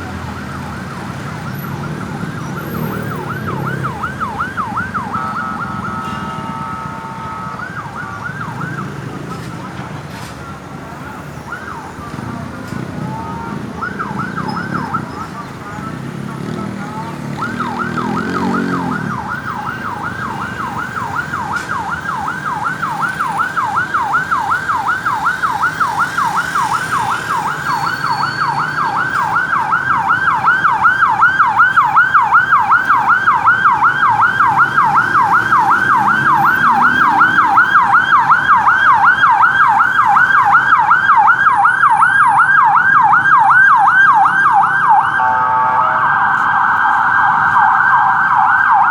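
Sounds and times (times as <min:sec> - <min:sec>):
ambulance siren yelping: 0:00.0 - 0:48.9.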